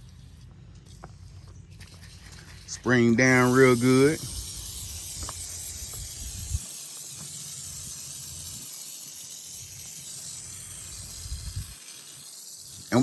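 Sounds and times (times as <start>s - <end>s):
aerosol can spraying: 0.0s - 13.0s.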